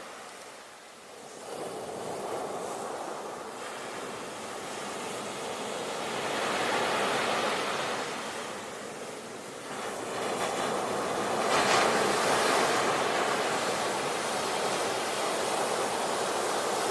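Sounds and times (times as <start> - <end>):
ocean waves breaking on shore: 0.0 - 16.9.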